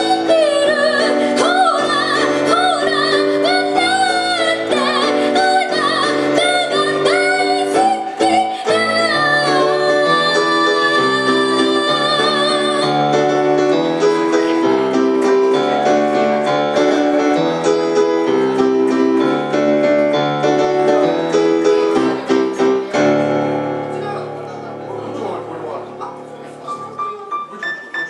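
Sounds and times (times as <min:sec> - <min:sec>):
digital piano chords: 0:00.0 - 0:28.0.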